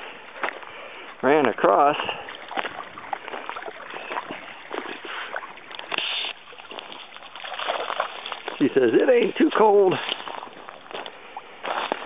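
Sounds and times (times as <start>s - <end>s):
dog wading through water: 0.2s - 12.0s.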